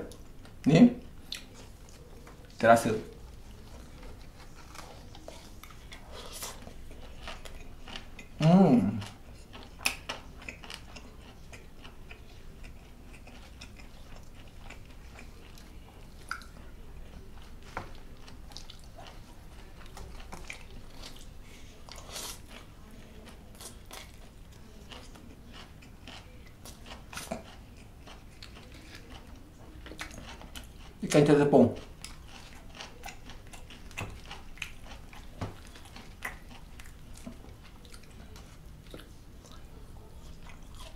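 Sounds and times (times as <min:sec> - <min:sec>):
close chewing with wet smacking: 0:00.1 - 0:40.9.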